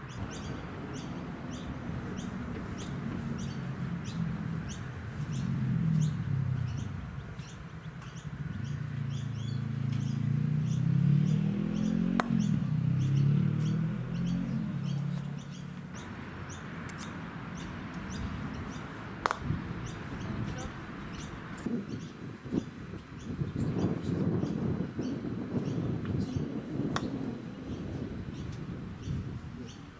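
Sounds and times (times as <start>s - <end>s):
low wavering hum: 0.0s - 29.8s
bird chirping: 0.0s - 29.9s.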